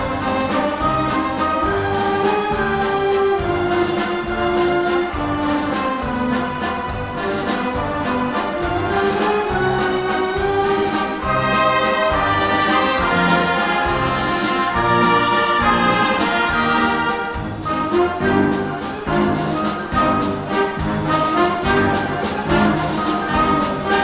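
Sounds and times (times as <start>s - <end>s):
orchestra with brass playing: 0.0s - 24.0s.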